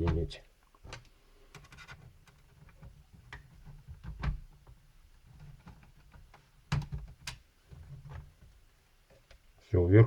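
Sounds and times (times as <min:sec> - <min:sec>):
plastic parts knocking and clicking: 0:00.0 - 0:09.4.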